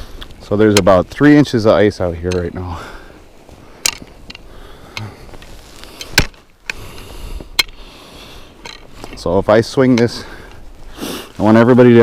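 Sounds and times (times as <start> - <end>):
low rustle: 0.0 - 12.0.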